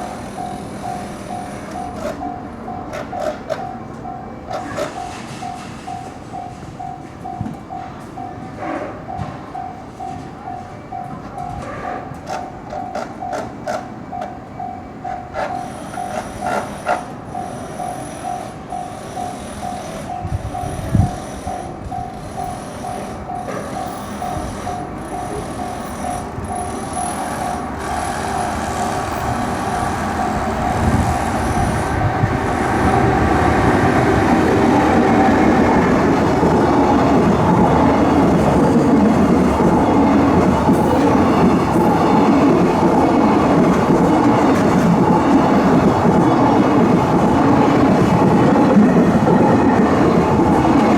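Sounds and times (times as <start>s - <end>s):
level-crossing bell ringing: 0.0s - 11.6s, 12.6s - 50.9s
train wheels clacking: 0.0s - 50.9s.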